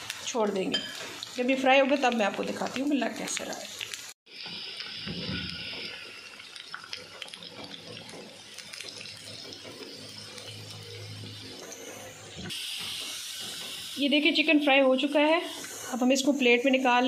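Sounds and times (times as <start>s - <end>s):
chicken deep-frying in hot oil: 0.0s - 17.0s.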